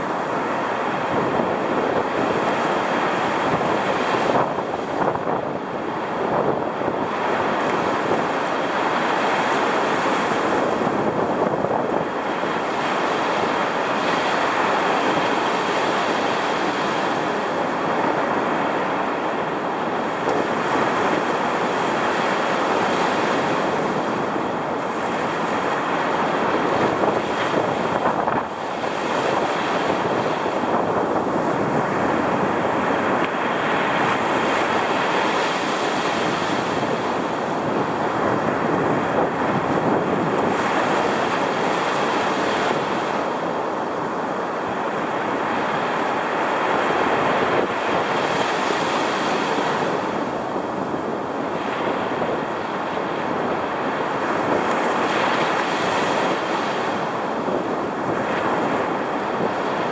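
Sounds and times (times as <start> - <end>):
ocean surf roaring: 0.0 - 59.9
wind buffeting microphone: 0.0 - 59.9.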